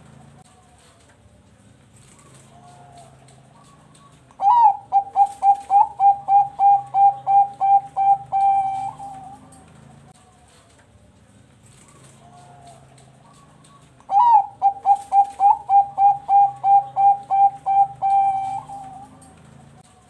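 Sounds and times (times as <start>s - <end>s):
dove cooing: 2.0s - 10.6s, 11.7s - 20.0s.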